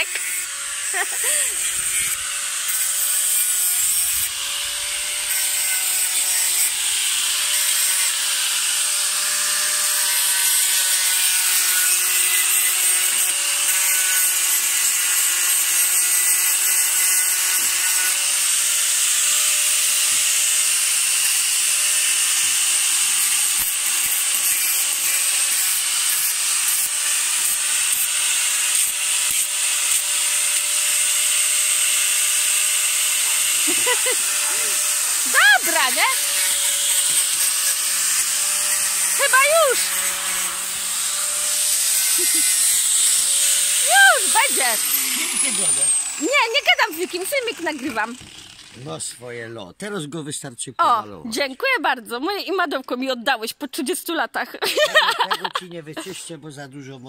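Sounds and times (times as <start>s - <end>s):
angle grinder grinding metal: 0.0s - 49.3s, 54.6s - 56.4s.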